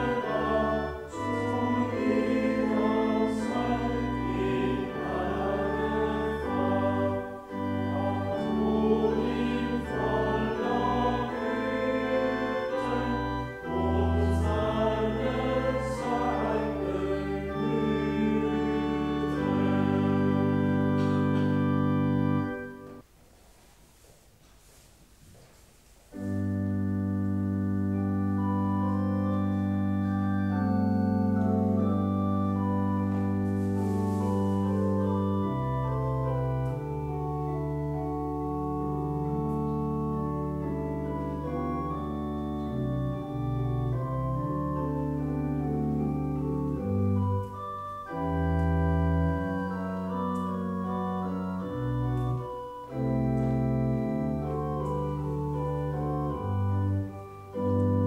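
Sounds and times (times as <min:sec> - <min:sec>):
organ chords: 0:00.0 - 0:23.1, 0:26.1 - 0:58.0.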